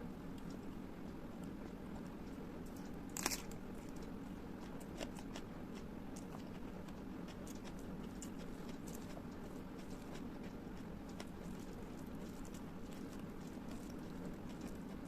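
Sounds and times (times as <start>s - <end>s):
person chewing: 1.4s - 15.0s.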